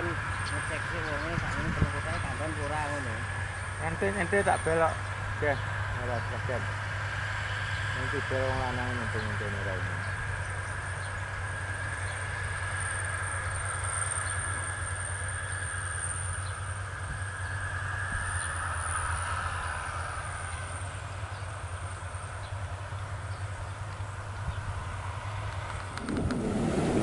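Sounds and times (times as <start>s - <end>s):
combine harvester machinery drone: 0.0s - 27.0s
thin wavering high whine: 0.0s - 27.0s.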